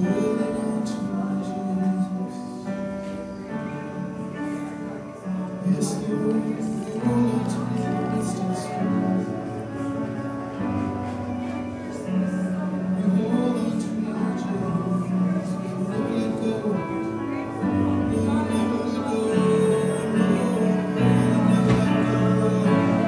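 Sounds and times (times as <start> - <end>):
sustained keyboard chords: 0.0 - 23.0
worship band playing slow song: 0.0 - 23.0.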